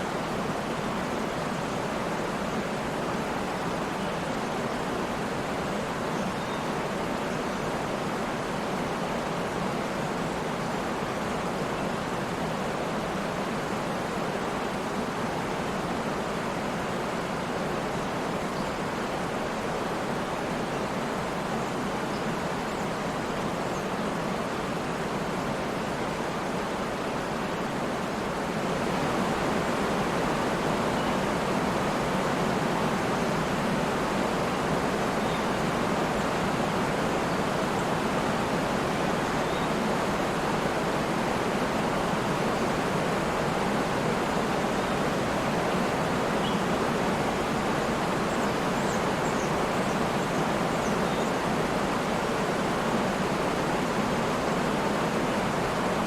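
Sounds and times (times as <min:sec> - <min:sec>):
waterfall roaring: 0:06.8 - 0:56.0.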